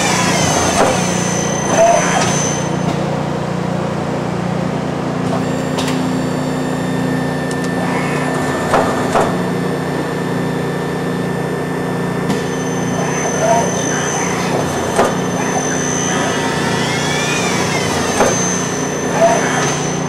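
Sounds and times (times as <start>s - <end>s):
machine hum with high whine: 0.0s - 20.0s.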